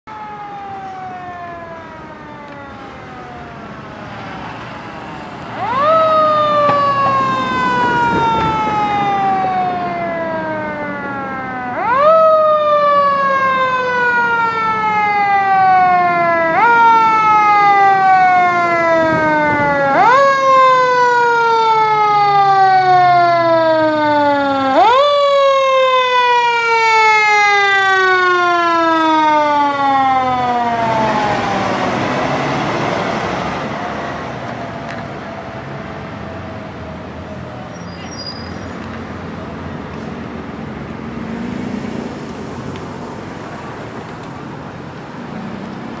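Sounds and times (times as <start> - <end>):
fire engine siren wailing: 0.0 - 46.0.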